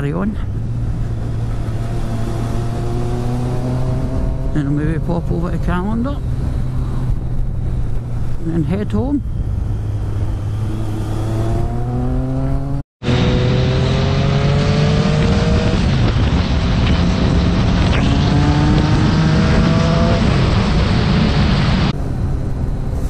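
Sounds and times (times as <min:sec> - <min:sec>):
motorcycle engine accelerating: 0:00.0 - 0:22.9
wind rush: 0:00.0 - 0:23.0.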